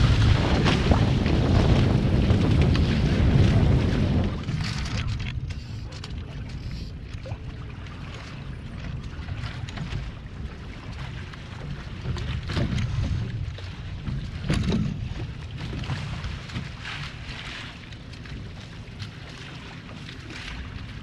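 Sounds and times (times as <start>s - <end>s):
boat hulls slapping through chop: 0.0s - 21.0s
water rushing and splashing: 0.0s - 21.0s
wind rumbling on microphone: 0.0s - 21.0s.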